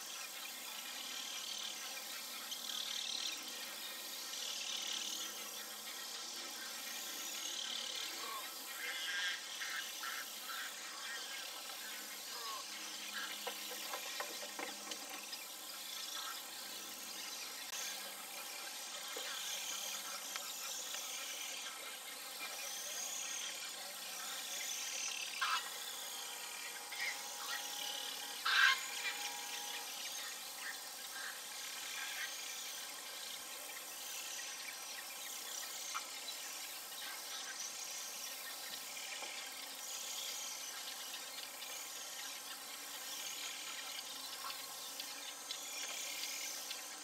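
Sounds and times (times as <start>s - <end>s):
steady hiss: 0.0s - 47.0s
birds chirping: 0.2s - 47.0s.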